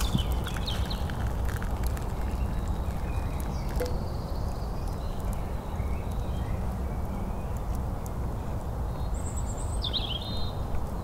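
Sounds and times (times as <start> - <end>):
faint crackles: 0.0 - 9.4.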